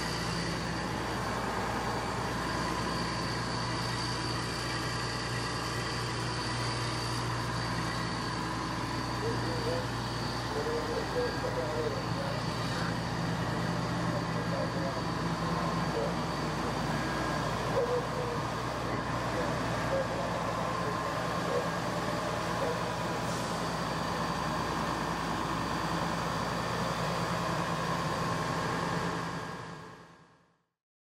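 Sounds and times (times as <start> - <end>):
diesel engine idling: 0.0 - 30.3
steady whine: 0.0 - 30.5.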